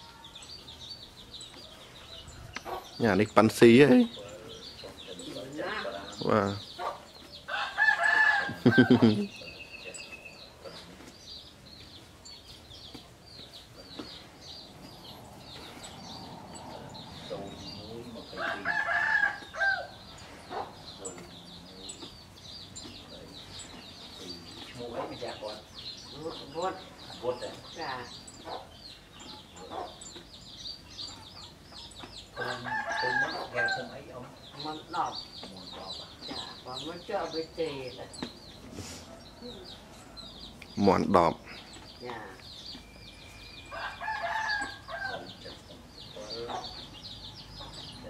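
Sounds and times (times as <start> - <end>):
chickens clucking: 0.0 - 7.6, 8.2 - 48.0
bird chirping: 0.0 - 48.0
faint outdoor background noise: 0.0 - 48.0.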